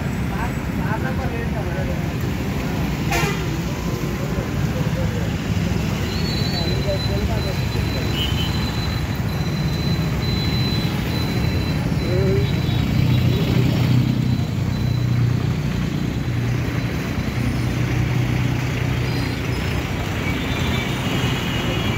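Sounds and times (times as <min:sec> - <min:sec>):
street noise: 0:00.0 - 0:21.9.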